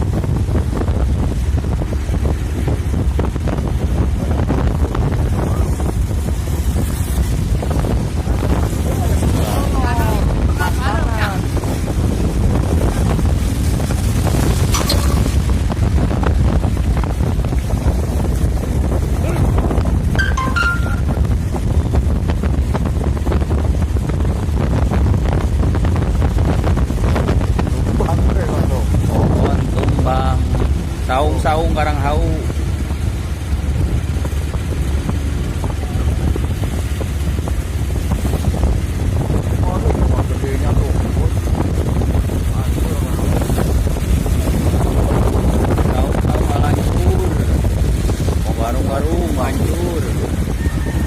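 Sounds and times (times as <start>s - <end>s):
storm wind buffeting microphone: 0.0s - 51.0s.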